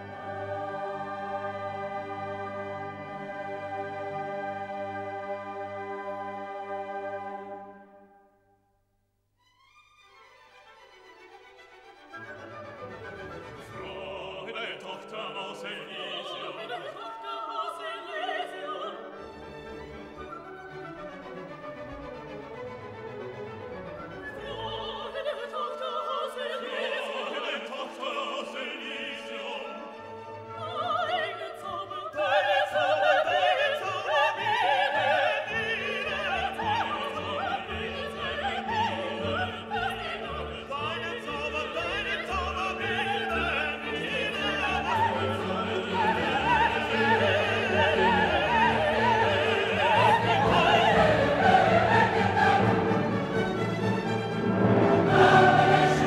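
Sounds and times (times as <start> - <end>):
operatic singing: 0.0 - 7.8, 13.1 - 20.6, 24.0 - 56.0
orchestral music: 0.0 - 8.3, 9.5 - 56.0.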